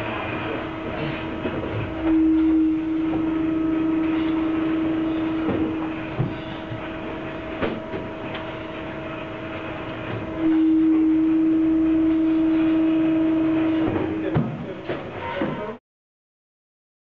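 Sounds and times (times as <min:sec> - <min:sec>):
workshop machine droning hum: 0:00.0 - 0:15.8.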